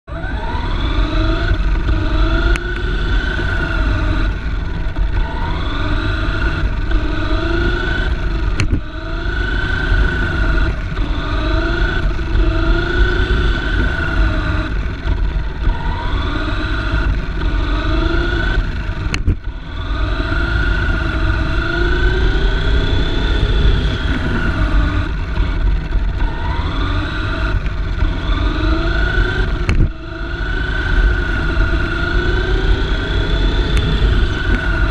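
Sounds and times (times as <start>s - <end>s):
low rumble of chassis vibration: 0.0s - 34.9s
electric motor whining: 0.1s - 34.9s.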